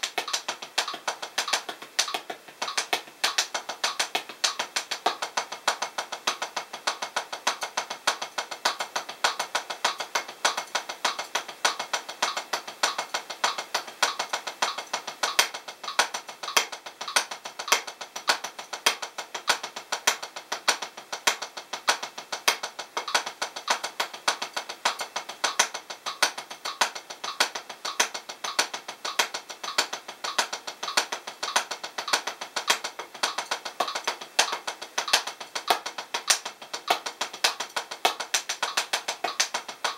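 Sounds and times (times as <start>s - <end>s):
stick taps on practice pad: 0.0s - 39.9s.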